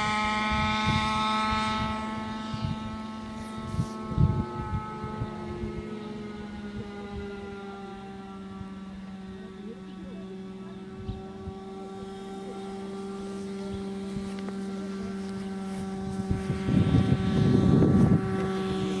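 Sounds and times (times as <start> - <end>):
steady pitched hum: 0.0 - 19.0.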